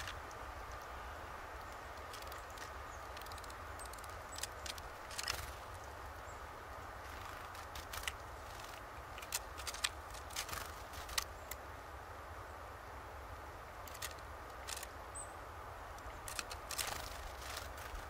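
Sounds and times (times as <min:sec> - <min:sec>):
birds pecking on wooden feeder: 0:00.0 - 0:11.6, 0:13.7 - 0:15.1, 0:15.9 - 0:18.0.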